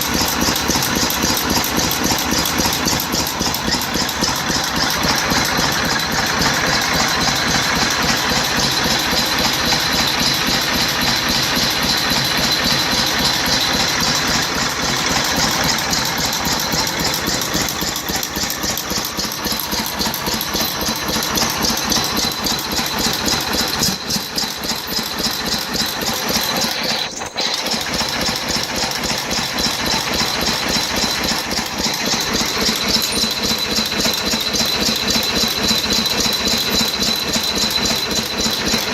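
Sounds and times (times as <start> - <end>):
stationary engine running: 0.0 - 38.9.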